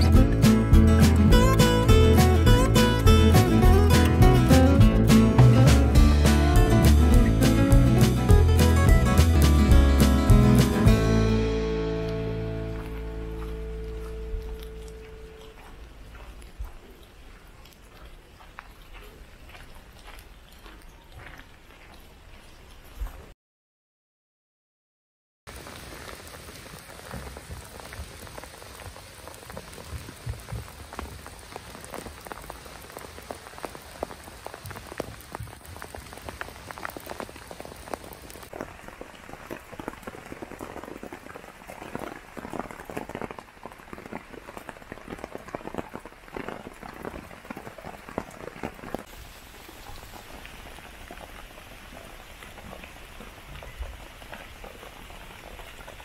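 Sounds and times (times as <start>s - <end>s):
rain falling through forest: 0.0s - 23.1s, 25.5s - 56.0s
raindrops pattering: 0.0s - 23.1s, 25.5s - 56.0s.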